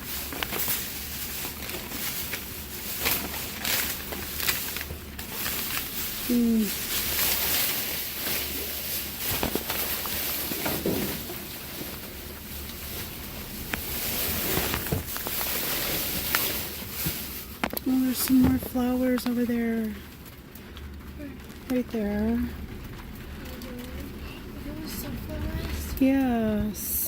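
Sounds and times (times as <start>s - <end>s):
rustling food packaging: 0.0s - 27.0s.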